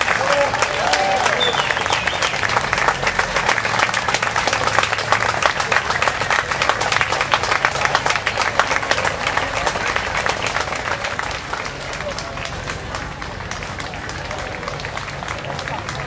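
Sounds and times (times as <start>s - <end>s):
crowd clapping: 0.0s - 16.0s.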